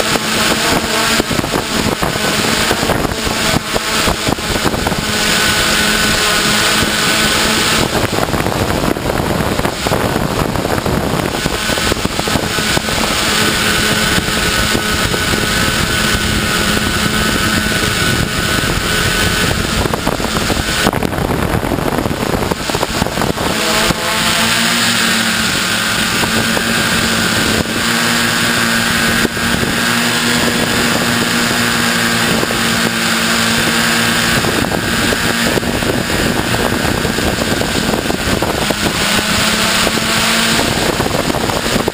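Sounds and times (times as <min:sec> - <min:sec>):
drone motors whining: 0:00.0 - 0:41.9
wind on microphone: 0:00.0 - 0:41.9.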